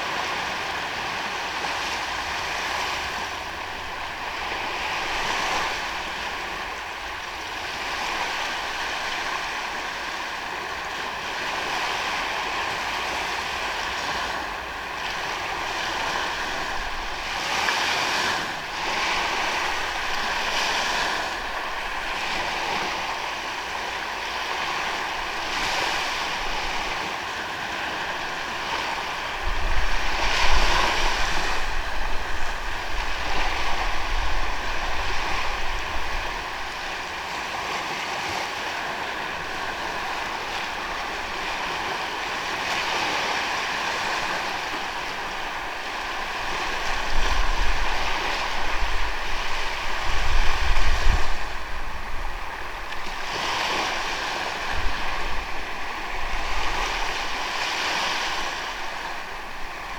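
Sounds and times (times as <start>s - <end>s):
ocean waves on a beach: 0.0s - 59.9s
wind rumbling on microphone: 0.0s - 59.9s.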